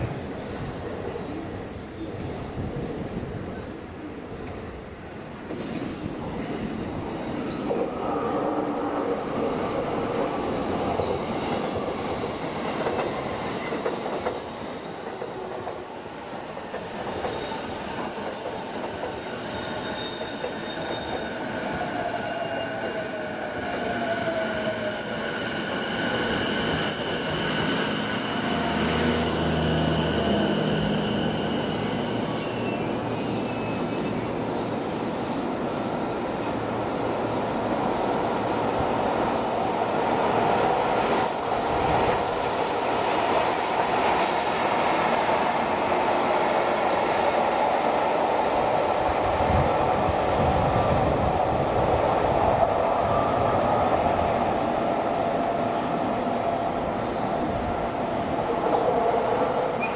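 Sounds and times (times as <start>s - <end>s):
train rumble and rail clatter: 0.0s - 59.9s.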